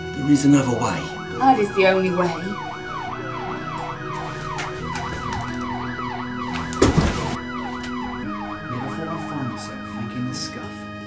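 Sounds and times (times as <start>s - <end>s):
background music chords: 0.0s - 11.0s
siren-like wailing tone: 0.0s - 11.0s.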